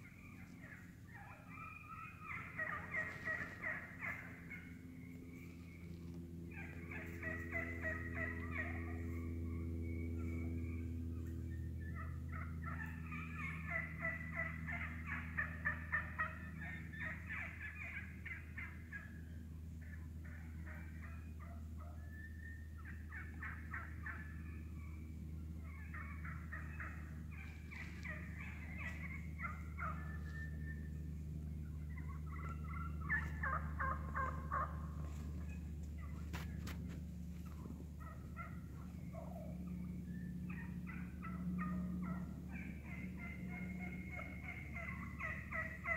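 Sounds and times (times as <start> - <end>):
turkeys clucking: 0.0 - 45.9.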